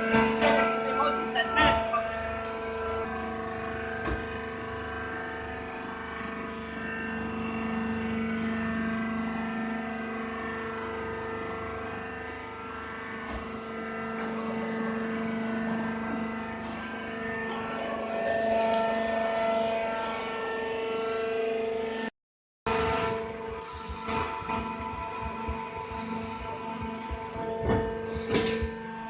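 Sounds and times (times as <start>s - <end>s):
machine humming: 0.0s - 22.1s, 22.7s - 29.0s.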